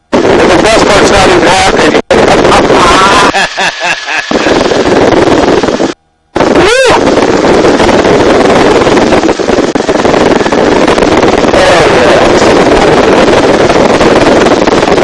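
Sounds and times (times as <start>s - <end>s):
helicopter rotor and engine noise: 0.0s - 15.0s
wind buffeting microphone: 0.0s - 15.0s.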